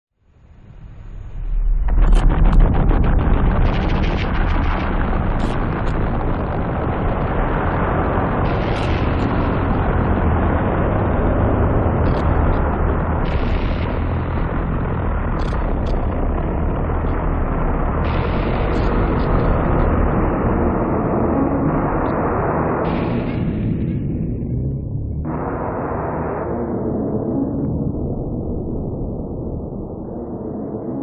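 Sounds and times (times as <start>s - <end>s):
heavy deep rumble: 0.2s - 31.0s
crackling bursts: 0.4s - 31.0s.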